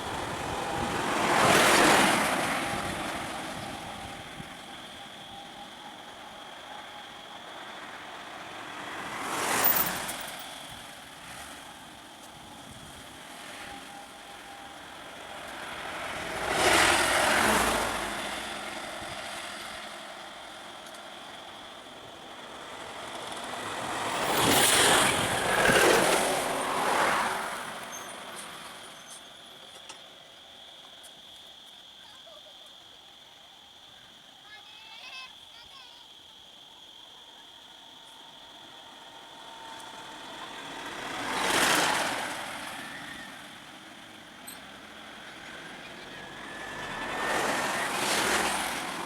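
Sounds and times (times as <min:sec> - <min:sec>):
road vehicles passing: 0:00.0 - 0:49.0.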